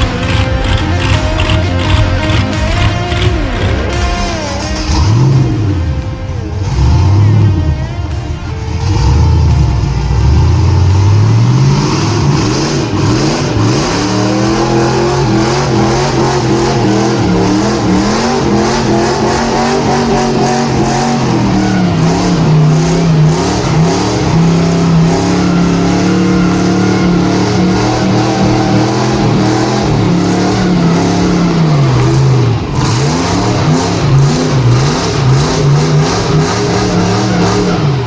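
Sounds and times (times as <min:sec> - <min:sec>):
monster truck engine revving: 0:00.0 - 0:38.0.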